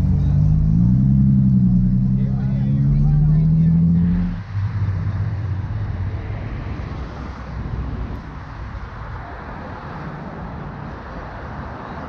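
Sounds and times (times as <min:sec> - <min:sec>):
car engines rumbling: 0:00.0 - 0:12.0
traffic noise: 0:00.0 - 0:12.0.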